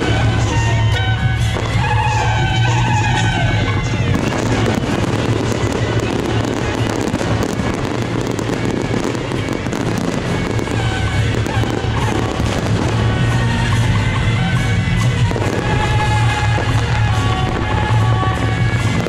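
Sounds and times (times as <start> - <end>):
fireworks crackling: 0.0 - 19.0
loud background music: 0.0 - 19.0.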